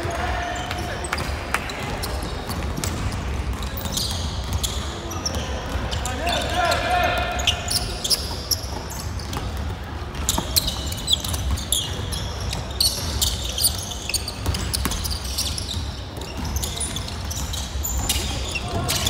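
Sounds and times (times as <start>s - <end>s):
basketball bouncing: 0.0s - 6.0s, 7.1s - 19.0s
sneakers squeaking: 0.0s - 19.0s.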